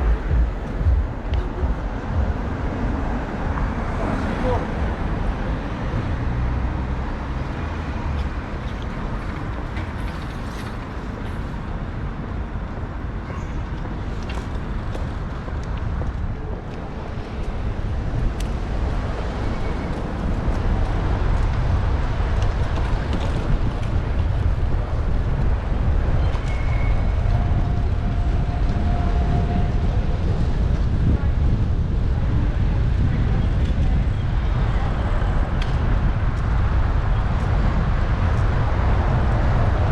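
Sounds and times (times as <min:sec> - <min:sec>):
passing road traffic: 0:00.0 - 0:39.9
wind rumble on microphone: 0:00.0 - 0:39.9.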